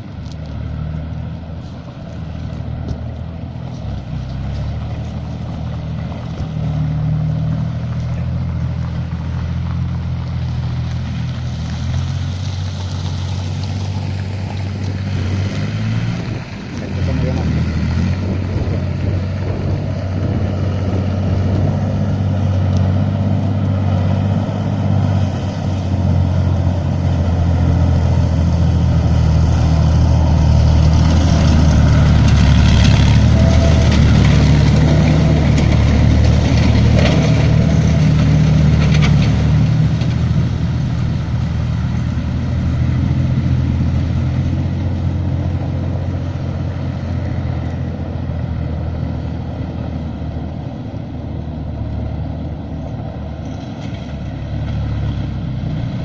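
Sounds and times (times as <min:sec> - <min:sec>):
tracks clanking: 0:00.0 - 0:49.3
diesel engine running: 0:00.0 - 0:56.0.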